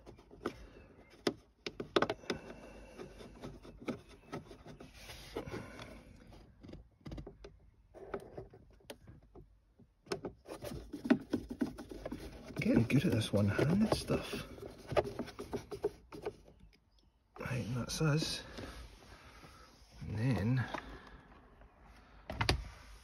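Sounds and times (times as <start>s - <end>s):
hands handling plastic panel: 0.0s - 18.8s.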